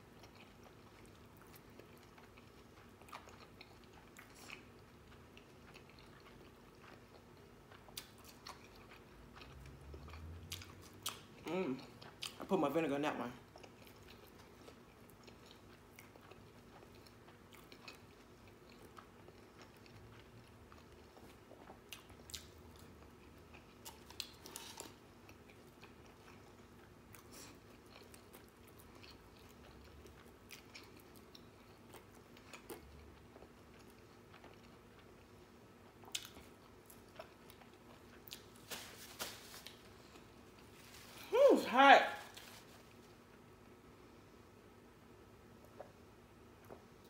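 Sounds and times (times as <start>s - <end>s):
chewing and biting burger: 0.0s - 12.4s, 13.5s - 41.2s.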